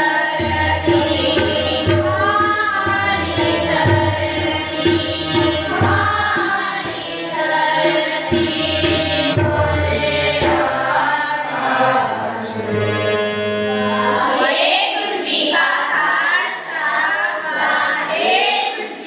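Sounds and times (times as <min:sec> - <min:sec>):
children singing: 0:00.0 - 0:19.0
harmonium: 0:00.0 - 0:19.0
tabla: 0:00.0 - 0:19.0.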